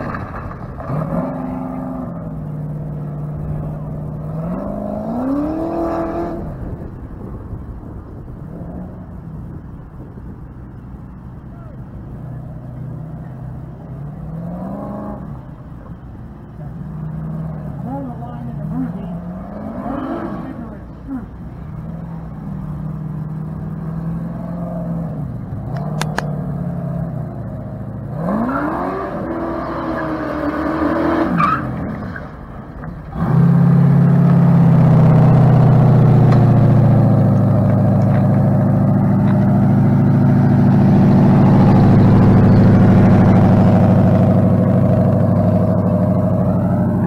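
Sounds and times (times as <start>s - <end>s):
deep steady engine note: 0.0s - 30.4s, 32.2s - 47.0s
car engine revving: 0.0s - 47.0s.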